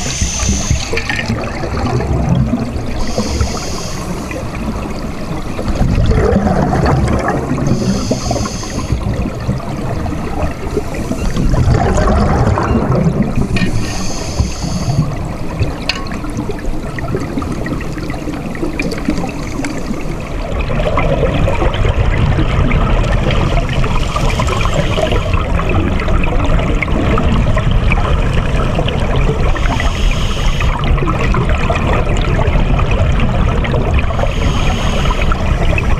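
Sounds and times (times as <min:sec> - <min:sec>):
underwater rushing and bubbles: 0:00.0 - 0:35.9.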